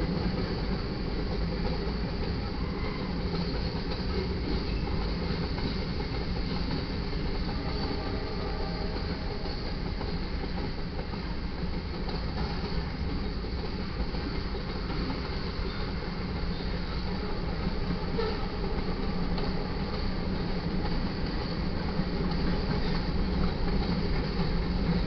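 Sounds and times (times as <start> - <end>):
steel wheels running on rails: 0.0 - 25.0.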